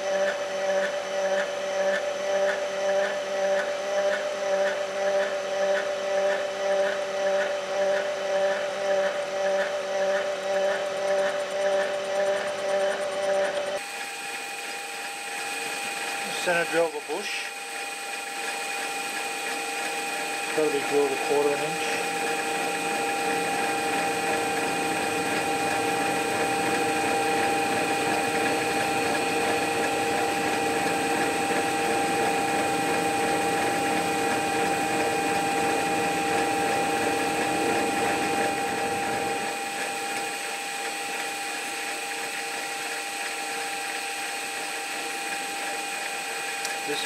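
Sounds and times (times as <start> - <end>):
metal lathe whining: 0.0 - 47.0.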